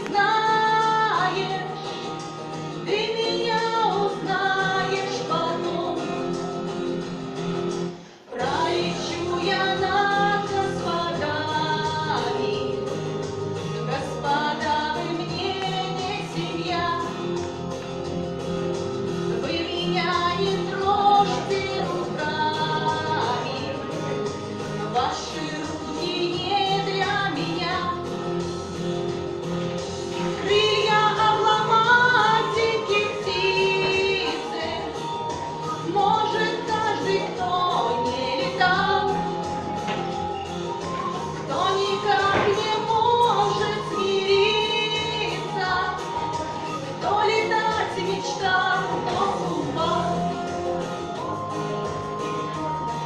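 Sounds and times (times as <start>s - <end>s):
person singing: 0.0s - 7.1s, 8.3s - 18.2s, 19.2s - 28.8s, 29.9s - 53.0s
instrumental accompaniment: 0.0s - 53.0s.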